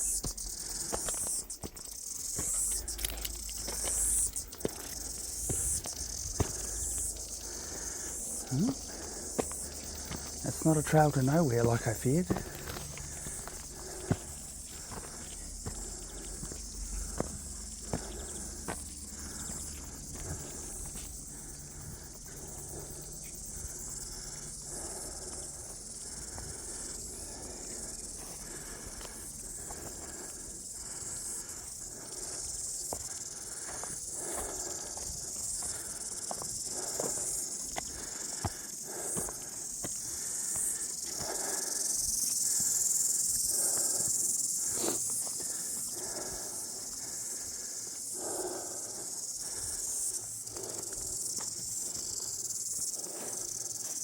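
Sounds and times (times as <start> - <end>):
footsteps on a trail: 0.0 - 54.0
high-pitched insect chorus: 0.0 - 54.0.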